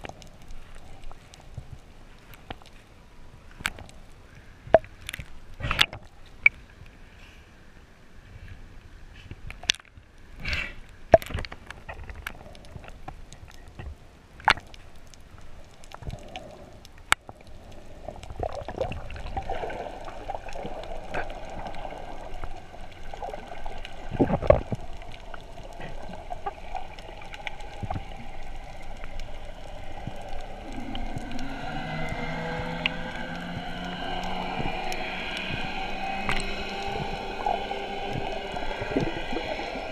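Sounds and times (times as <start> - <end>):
underwater gurgling: 0.0 - 6.8, 9.6 - 39.9
underwater hum: 0.0 - 39.9.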